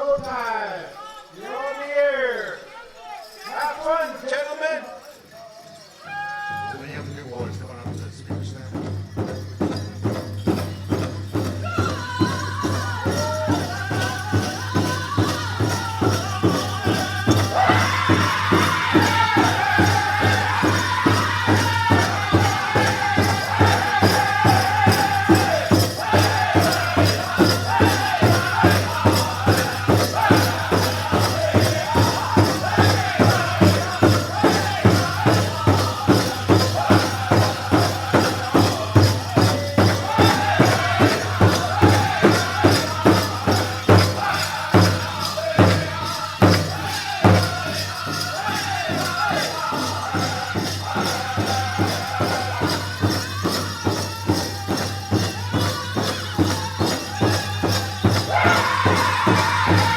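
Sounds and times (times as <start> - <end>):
large drum beating steadily: 7.4 - 59.9
lead voice singing: 10.5 - 59.9
group singing in high voices: 11.3 - 59.9.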